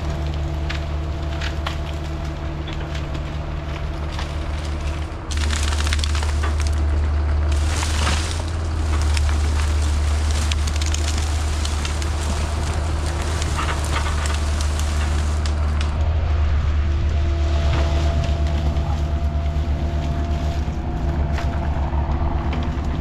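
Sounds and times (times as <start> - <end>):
branches crackling and snapping: 0.0 - 23.0
excavator diesel engine: 0.0 - 23.0.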